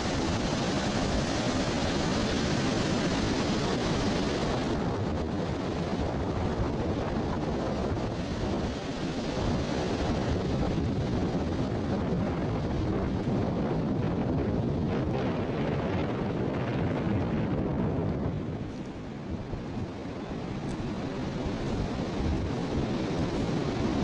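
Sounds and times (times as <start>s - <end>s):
beach surf: 0.0s - 24.0s
wind rumbling on microphone: 0.0s - 24.0s.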